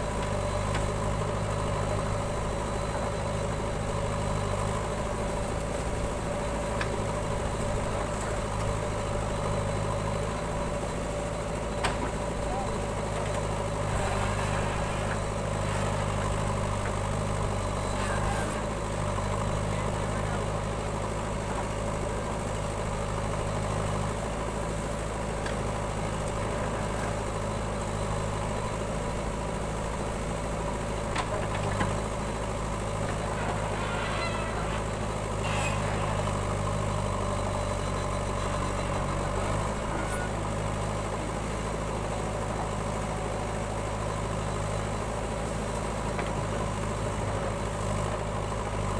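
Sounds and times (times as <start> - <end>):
diesel engines running: 0.0 - 48.9.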